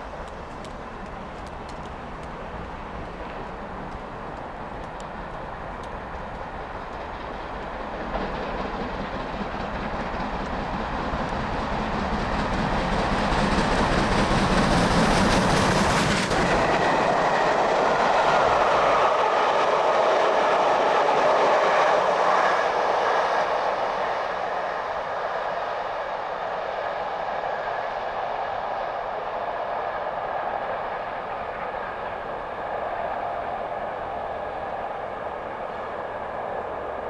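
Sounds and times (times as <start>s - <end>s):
deep locomotive rumble: 0.0s - 37.0s
train wheels rushing on rails: 0.0s - 37.0s.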